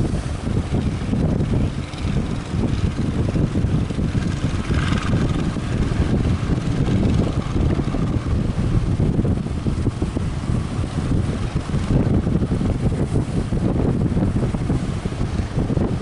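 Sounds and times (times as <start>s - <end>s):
surf hissing: 0.0s - 16.0s
wind buffeting microphone: 0.0s - 16.0s.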